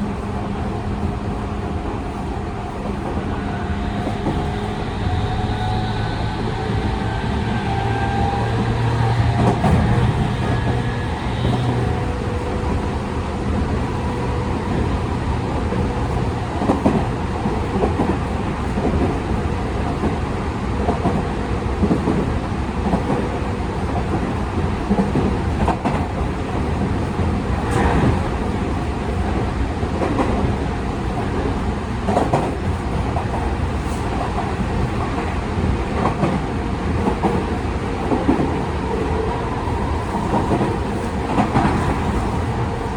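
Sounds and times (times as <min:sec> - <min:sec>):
train rolling rumble: 0:00.0 - 0:42.9.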